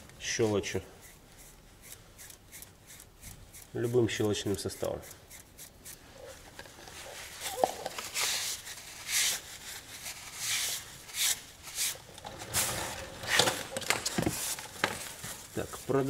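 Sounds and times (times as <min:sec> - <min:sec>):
brush scrubbing metal: 0:00.2 - 0:16.0.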